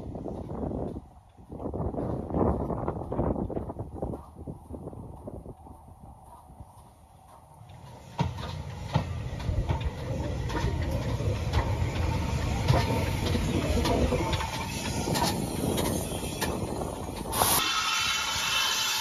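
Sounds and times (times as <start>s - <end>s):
steam locomotive rumbling past: 0.0s - 19.0s
wheels clanking on track: 0.0s - 19.0s.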